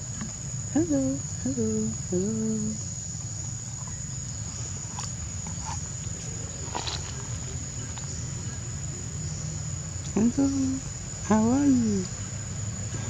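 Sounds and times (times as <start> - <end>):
insects droning: 0.0 - 13.0
steady low hum: 0.0 - 13.0.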